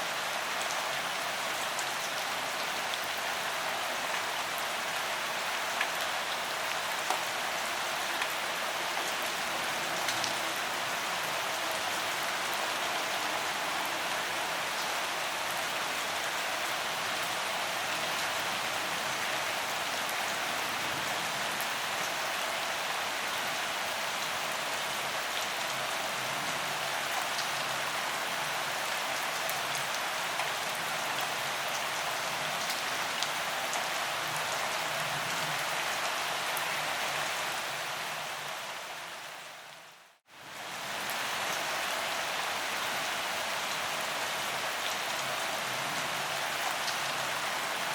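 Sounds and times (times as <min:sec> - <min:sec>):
gentle rain falling: 0:00.0 - 0:47.9.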